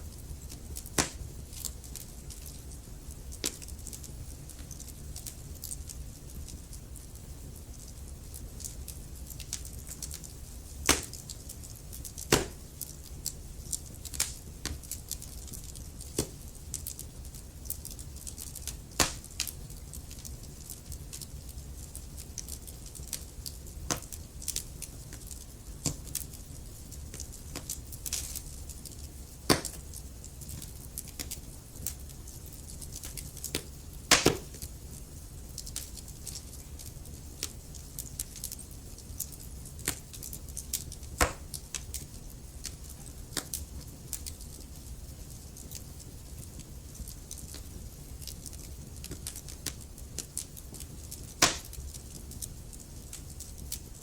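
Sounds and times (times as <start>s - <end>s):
fire crackles and pops: 0.0s - 54.0s
logs burning in a fireplace: 0.0s - 54.0s.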